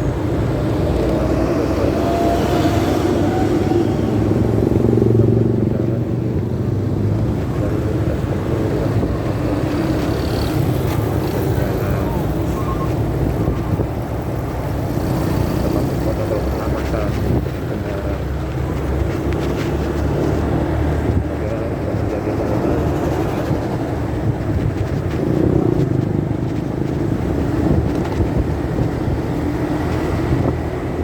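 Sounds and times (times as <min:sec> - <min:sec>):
muffled motorcycle engine: 0:00.0 - 0:31.0
road rumble: 0:00.0 - 0:31.0.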